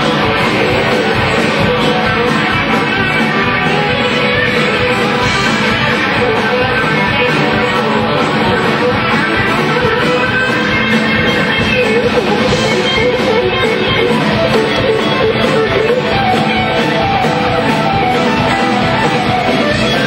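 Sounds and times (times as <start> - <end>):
acoustic guitar: 0.0 - 20.0
drum kit: 0.0 - 20.0
electric guitars: 0.0 - 20.0.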